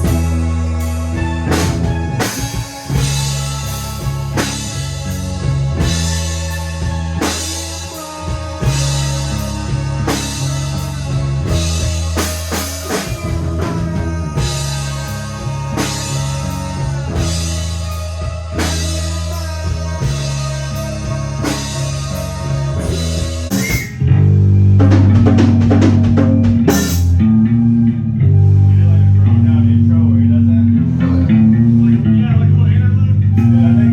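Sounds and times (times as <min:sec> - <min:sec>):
loud bass guitar line: 0:00.0 - 0:33.9
rock band playing: 0:00.0 - 0:33.9.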